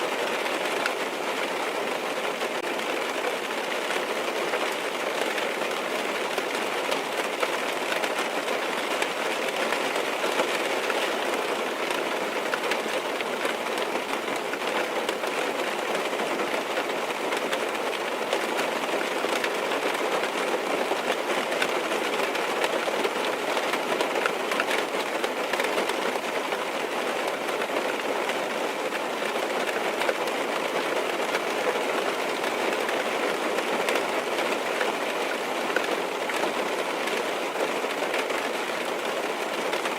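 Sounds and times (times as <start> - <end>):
rain tapping on car roof: 0.0 - 39.9.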